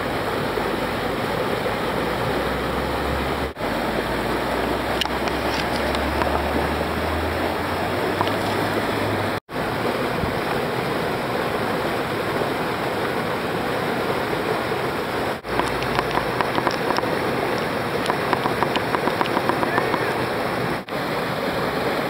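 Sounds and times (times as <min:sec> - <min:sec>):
rushing whitewater: 0:00.0 - 0:22.0.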